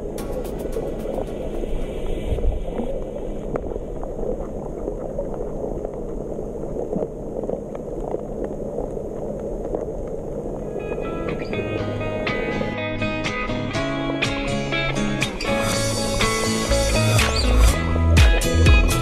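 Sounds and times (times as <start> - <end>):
underwater water noise: 0.0 - 17.8.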